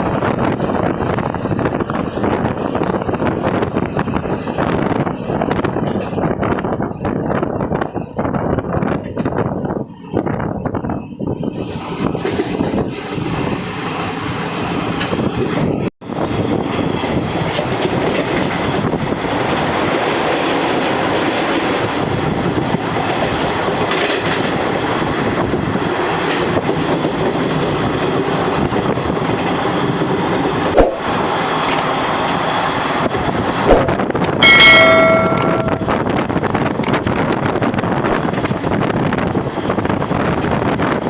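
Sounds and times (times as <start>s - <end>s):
train wheels rolling on rails: 0.0s - 41.0s.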